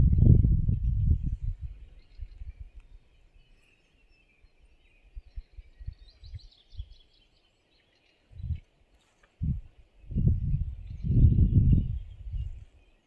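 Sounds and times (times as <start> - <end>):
small bird singing: 0.0 - 13.0.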